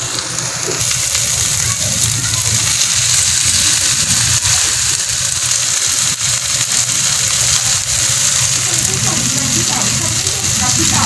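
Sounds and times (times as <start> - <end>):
meat and vegetables sizzling in wok: 0.0 - 11.0.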